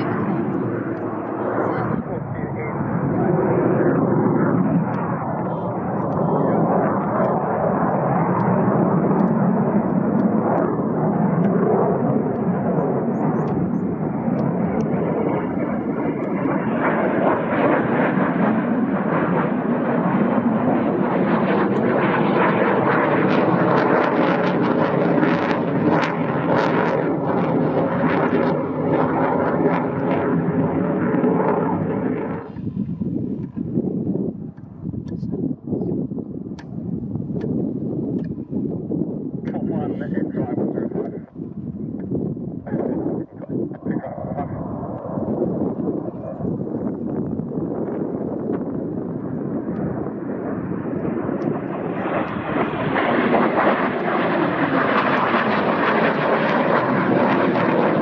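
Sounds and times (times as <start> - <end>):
jet engines roaring overhead: 0.0 - 58.0.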